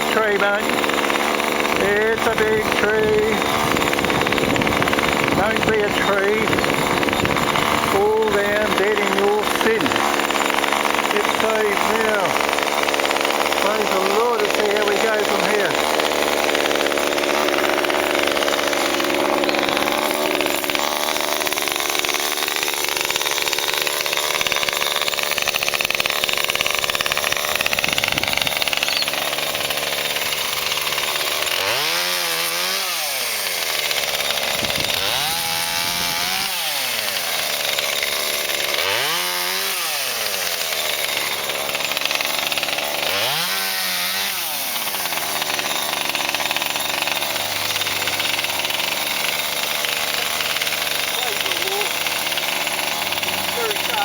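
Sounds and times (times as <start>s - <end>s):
chainsaw cutting through trunk: 0.0s - 54.0s
chainsaw revving: 0.0s - 54.0s.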